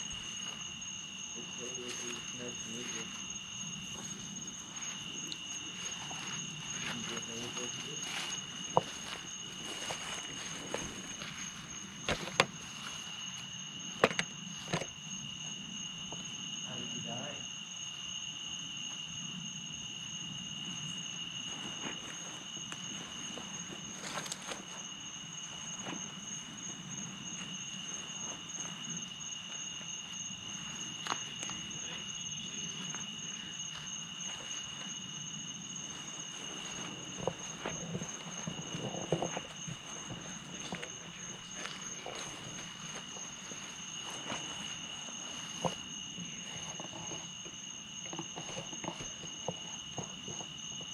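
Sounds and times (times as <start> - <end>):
faint footsteps: 0.0 - 14.9, 20.8 - 50.9
night insects chorusing: 0.0 - 50.9.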